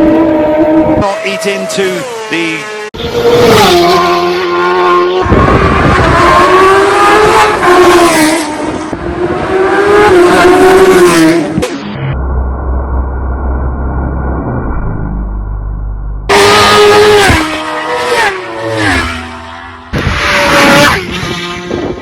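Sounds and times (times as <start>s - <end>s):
racing motorcycle engine revving: 0.0s - 12.2s, 16.2s - 22.0s.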